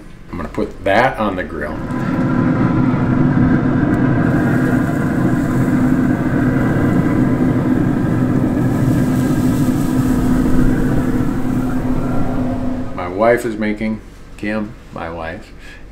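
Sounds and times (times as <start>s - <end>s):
grill fan humming: 0.0s - 15.9s.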